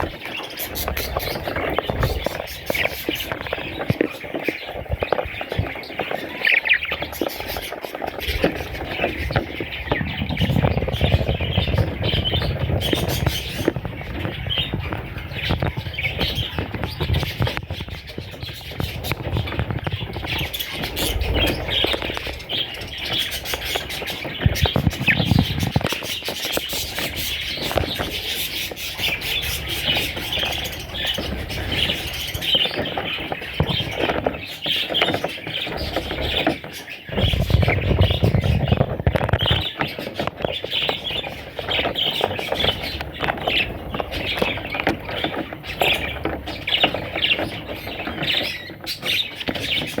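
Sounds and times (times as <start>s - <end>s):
budgerigars chirping and chattering: 0.0s - 50.0s.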